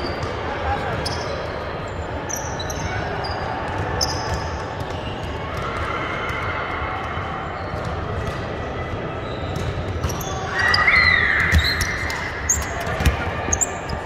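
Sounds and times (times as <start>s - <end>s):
sneakers squeaking: 0.0s - 6.4s, 7.5s - 14.0s.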